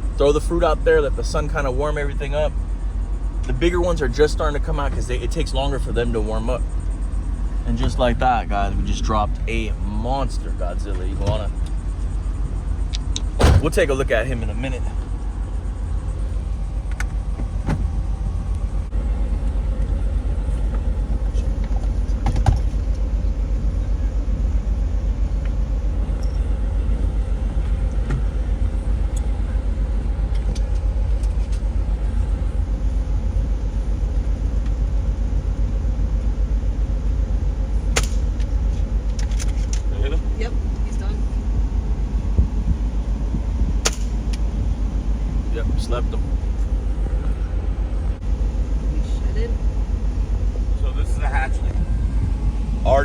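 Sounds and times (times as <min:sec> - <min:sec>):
car interior low rumble: 0:00.0 - 0:53.0.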